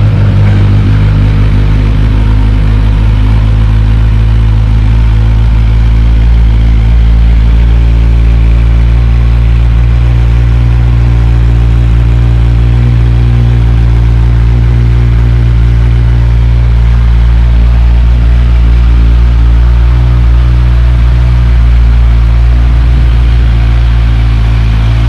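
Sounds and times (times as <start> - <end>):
motorcycle engine idling loudly: 0.0 - 25.0.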